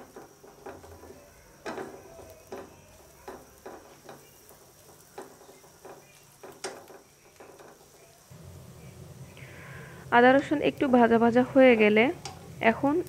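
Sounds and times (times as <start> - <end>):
light sizzle of frying: 0.0 - 13.0.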